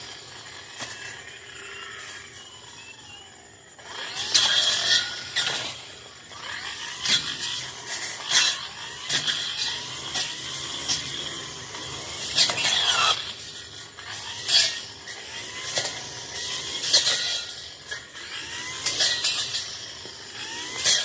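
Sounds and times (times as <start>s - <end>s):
brush cutter engine revving: 0.0s - 21.0s.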